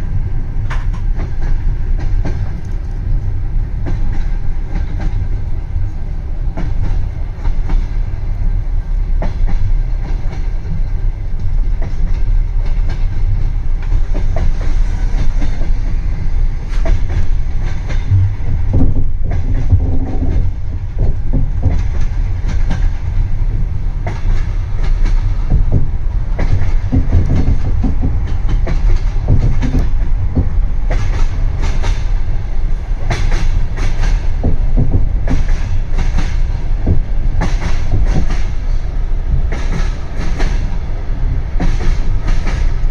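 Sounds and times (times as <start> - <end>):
train rumbling on rails: 0.0 - 42.9
sharp knocks from train wheels: 0.6 - 2.9, 3.7 - 5.3, 6.5 - 8.0, 9.1 - 11.0, 11.6 - 16.0, 16.6 - 40.9, 41.5 - 42.9.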